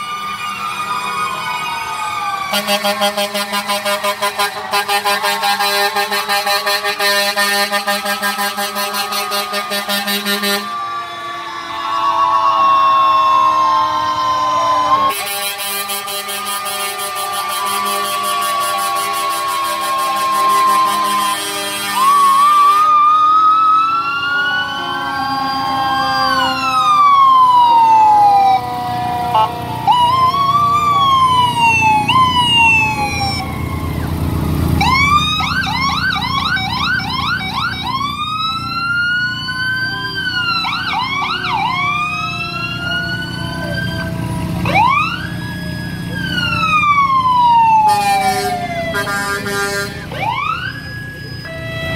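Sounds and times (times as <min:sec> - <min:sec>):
fire truck sirens wailing: 0:00.0 - 0:51.9.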